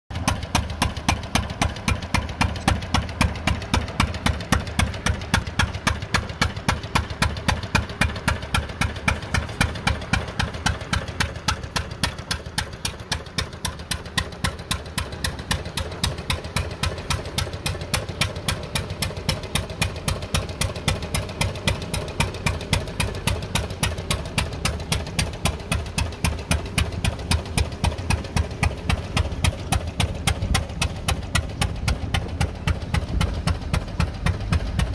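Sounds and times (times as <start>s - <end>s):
single-cylinder engine running: 0.1s - 34.9s.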